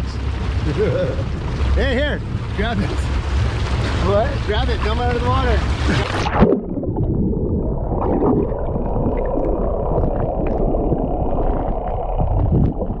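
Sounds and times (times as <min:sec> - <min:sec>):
underwater rumble and gurgle: 0:00.0 - 0:13.0.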